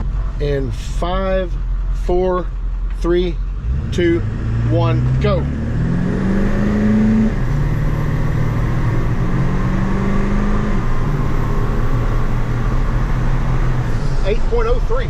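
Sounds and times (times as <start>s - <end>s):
diesel engine accelerating: 0.0s - 15.0s.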